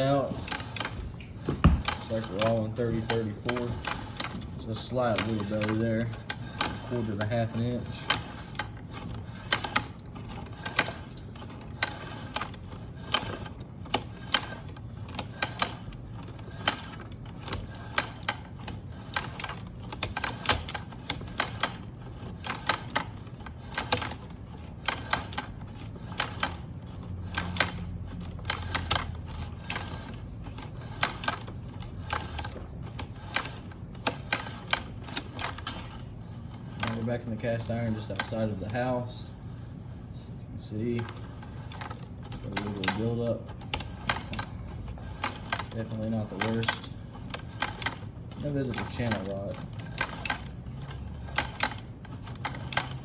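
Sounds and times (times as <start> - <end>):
push cable clicking: 0.0 - 39.1, 40.8 - 53.0
steady low hum: 0.0 - 53.0.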